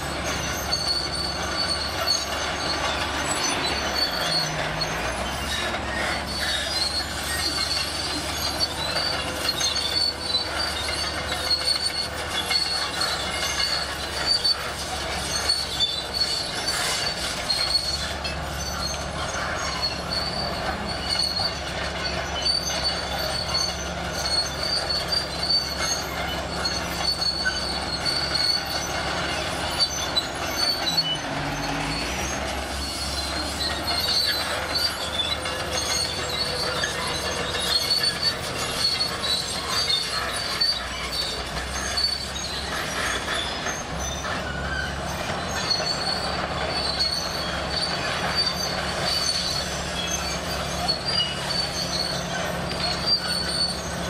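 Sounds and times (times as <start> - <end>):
bulldozer tracks squealing and clanking: 0.0 - 54.0
diesel engine running: 0.0 - 54.0.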